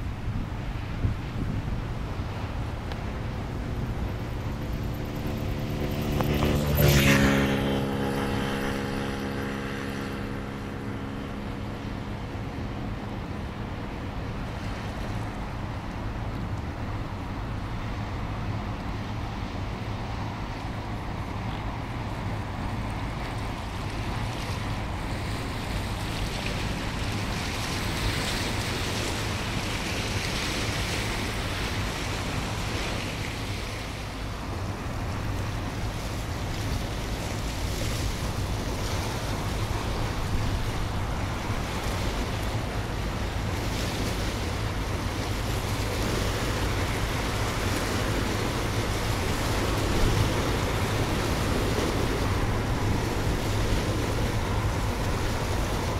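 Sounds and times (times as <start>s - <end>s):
wind buffeting microphone: 0.0s - 18.7s, 19.8s - 55.9s
ship engines humming: 0.6s - 55.9s.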